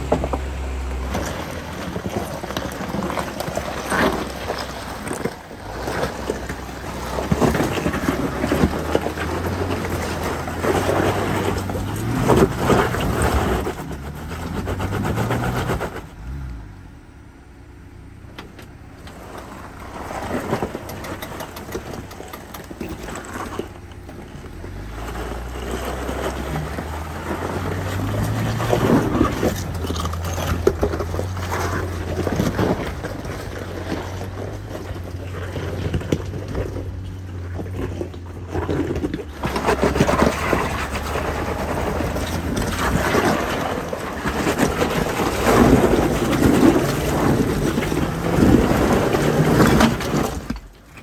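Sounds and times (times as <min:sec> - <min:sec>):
knocks and crunches on rocks: 0:00.0 - 0:16.4, 0:19.0 - 0:51.0
engine running at low revs: 0:00.0 - 0:50.8.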